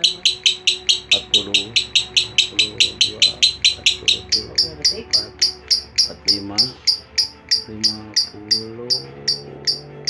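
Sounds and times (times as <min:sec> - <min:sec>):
faint voices: 0:00.0 - 0:10.0
songbird singing high notes: 0:00.0 - 0:10.0.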